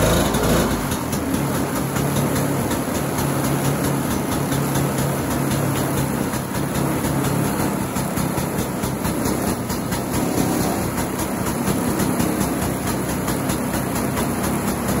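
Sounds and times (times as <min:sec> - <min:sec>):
snowmobile engine idling: 0:00.0 - 0:15.0.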